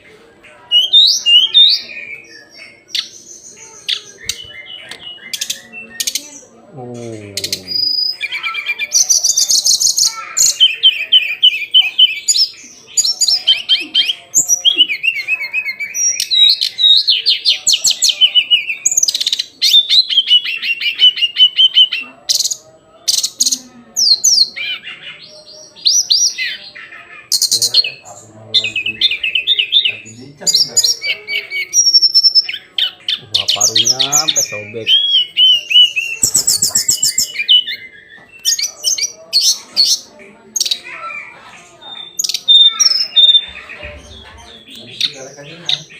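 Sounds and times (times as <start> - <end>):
bird singing trills and whistles: 0.7 - 6.5, 7.4 - 45.9.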